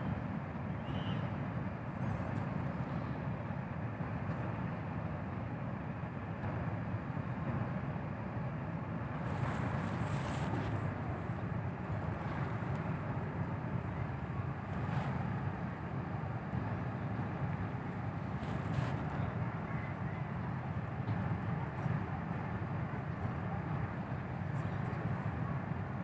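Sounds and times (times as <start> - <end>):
low ship engine rumble: 0.0 - 26.0.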